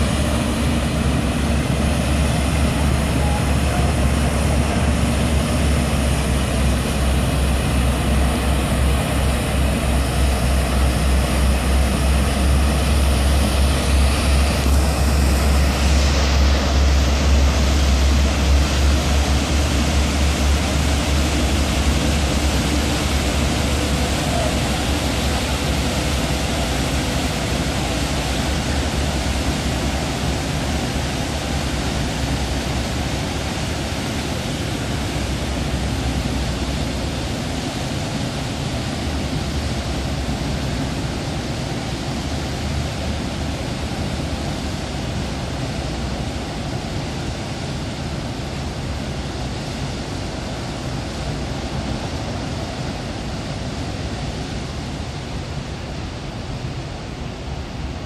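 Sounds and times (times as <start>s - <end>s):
churning waterjet wash: 0.0s - 58.0s
ferry engine rumble: 0.0s - 58.0s.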